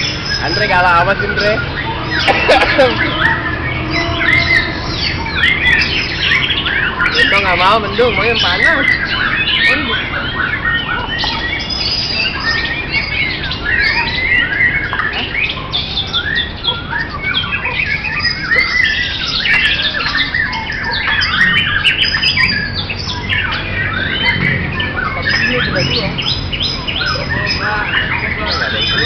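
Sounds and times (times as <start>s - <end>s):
birds singing: 0.0s - 29.0s.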